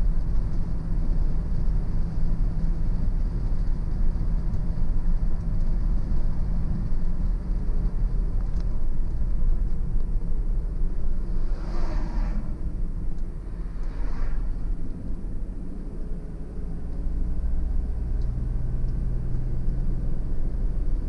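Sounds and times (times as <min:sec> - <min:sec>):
car engine and tyres on road: 0:00.0 - 0:21.0.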